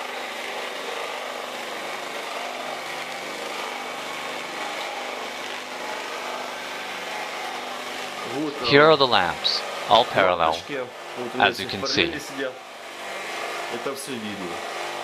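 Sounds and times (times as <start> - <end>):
electric motor-generator humming: 0.0 - 15.0.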